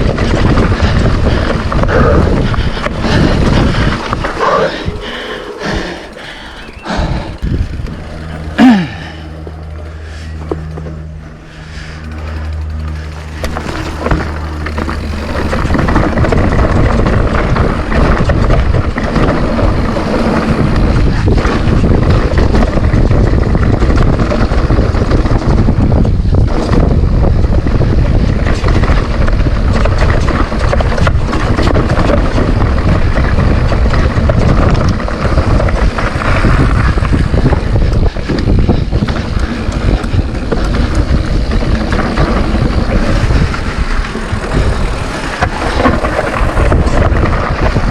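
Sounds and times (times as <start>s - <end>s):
bike rattling over rough ground: 0.0s - 47.9s
bike tyres rolling on dirt: 0.0s - 47.9s
wind buffeting microphone: 0.0s - 47.9s.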